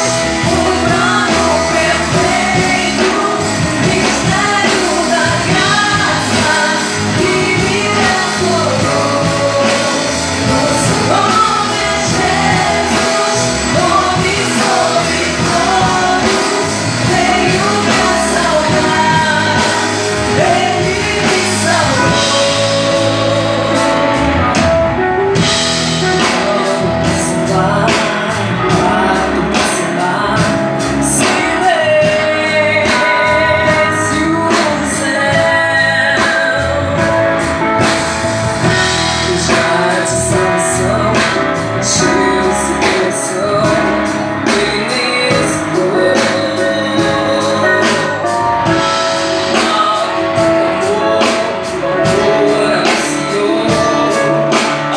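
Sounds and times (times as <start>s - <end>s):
band playing with a beat: 0.0s - 54.9s
person singing: 0.0s - 54.9s.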